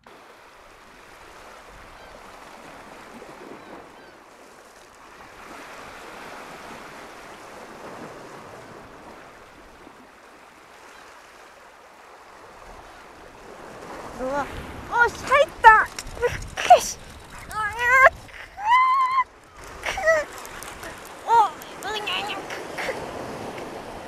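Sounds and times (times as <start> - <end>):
waves washing against rocky shore: 0.1 - 24.0.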